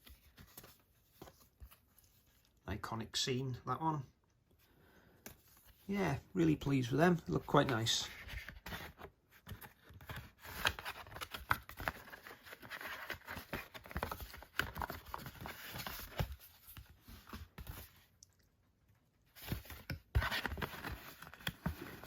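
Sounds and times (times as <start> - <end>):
cards and packaging handled: 0.0 - 2.6, 5.2 - 18.2, 19.2 - 22.0.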